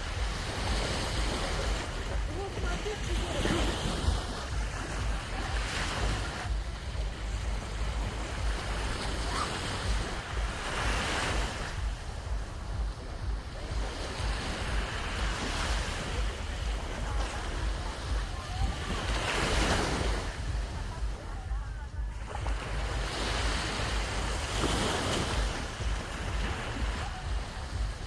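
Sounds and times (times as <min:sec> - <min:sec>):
sea waves washing onto beach: 0:00.0 - 0:28.0
wind buffeting microphone: 0:00.0 - 0:28.0.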